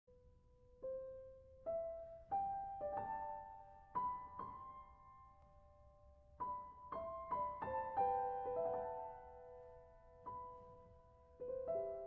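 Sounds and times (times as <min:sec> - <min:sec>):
soft piano melody: 0:00.1 - 0:12.0.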